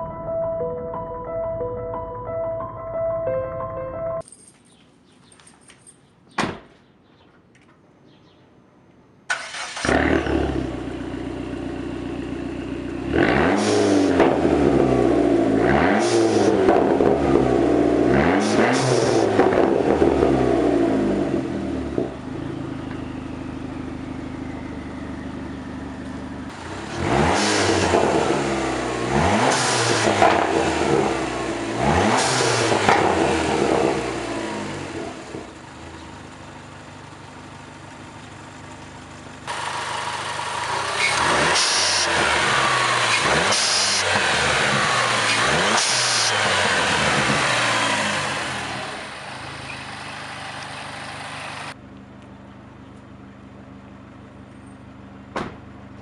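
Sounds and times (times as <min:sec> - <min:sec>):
car engine idling and revving: 0:09.3 - 0:56.0.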